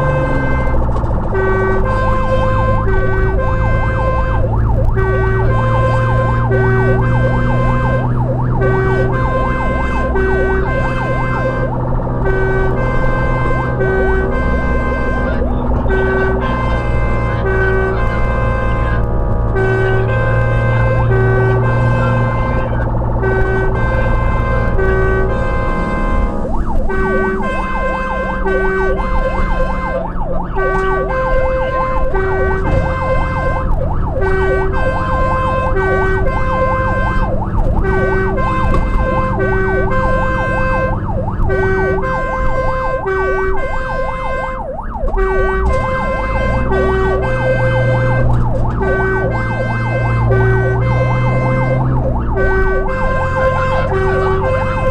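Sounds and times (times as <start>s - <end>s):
fast warbling siren: 0.0s - 54.9s
truck engine running: 0.0s - 54.9s
two-tone siren: 0.0s - 54.9s.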